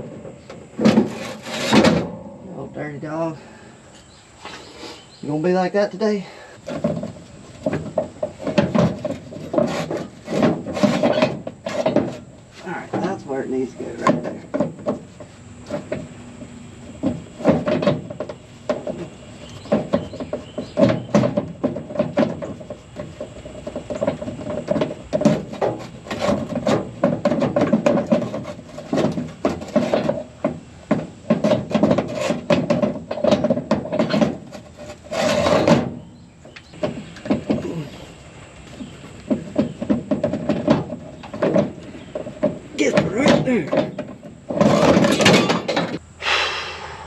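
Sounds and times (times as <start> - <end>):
hand tools clanking on metal: 6.0 - 46.0.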